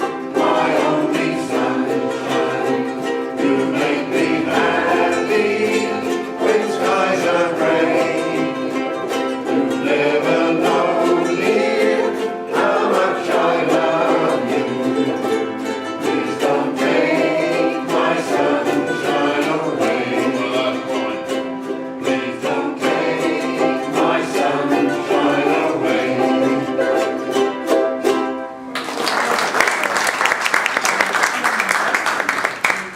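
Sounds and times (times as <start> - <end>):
group singing: 0.0 - 28.3
strummed strings: 0.0 - 28.8.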